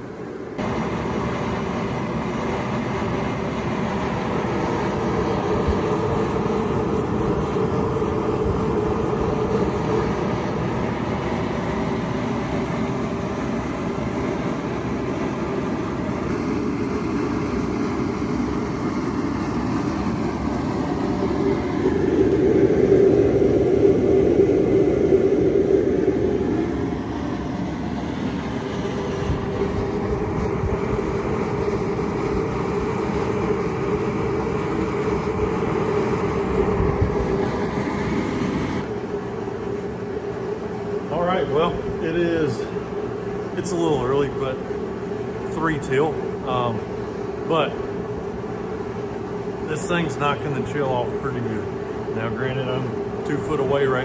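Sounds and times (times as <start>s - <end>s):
propane heater roaring: 0.0s - 54.0s.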